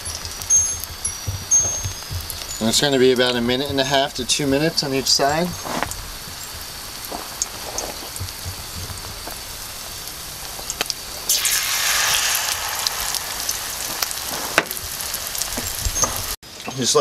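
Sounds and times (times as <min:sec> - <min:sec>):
food sizzling in oil: 0:00.0 - 0:16.4.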